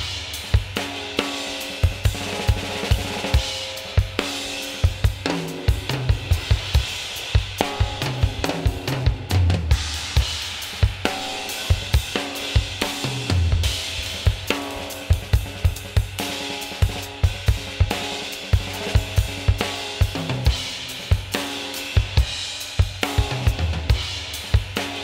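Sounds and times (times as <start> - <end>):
drum kit playing a groove: 0.0 - 25.0.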